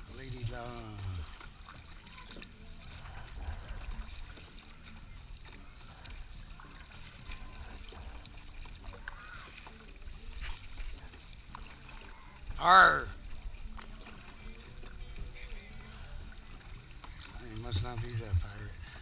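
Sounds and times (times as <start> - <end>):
paddle strokes: 0.0 - 19.0
water splashing and dripping: 0.0 - 19.0.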